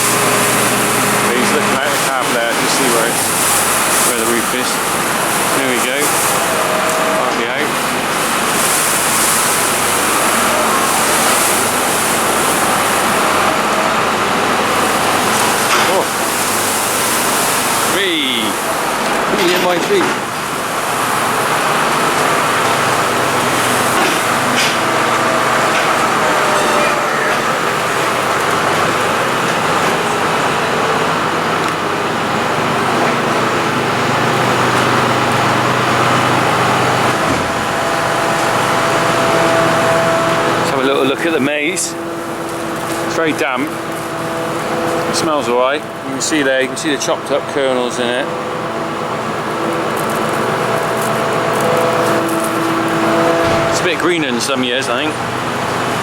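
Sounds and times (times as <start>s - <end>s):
farm machinery engines running: 0.0s - 56.0s
high steady whine: 0.0s - 56.0s.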